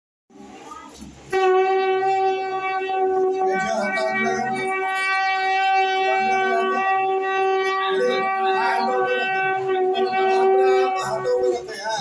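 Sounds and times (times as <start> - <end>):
faint voices: 0.3 - 12.0
conch shell blown: 1.2 - 12.0.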